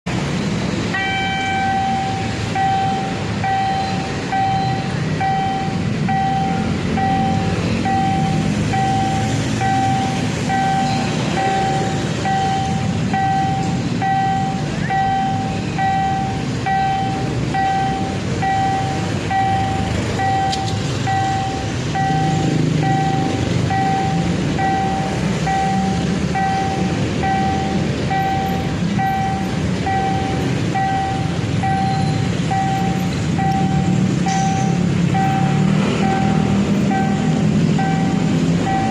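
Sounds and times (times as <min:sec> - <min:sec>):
low rumble of traffic: 0:00.0 - 0:38.9
level crossing warning bell: 0:00.1 - 0:38.9.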